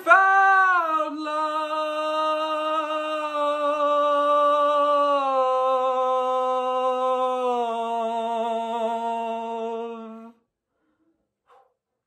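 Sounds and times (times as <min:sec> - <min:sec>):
man singing a sustained note: 0:00.0 - 0:10.4.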